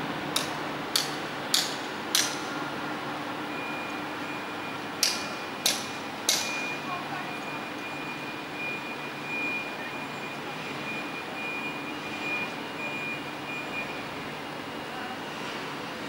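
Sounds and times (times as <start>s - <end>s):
urban mechanical hum: 0.0s - 16.0s.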